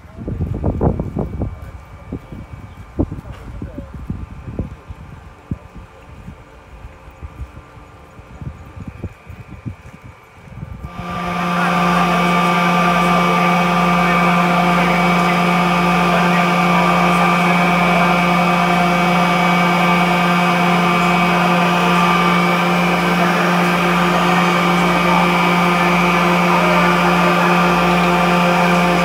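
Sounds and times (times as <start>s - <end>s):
high machine whine: 0.0s - 29.0s
motors and pumps humming: 0.0s - 29.0s.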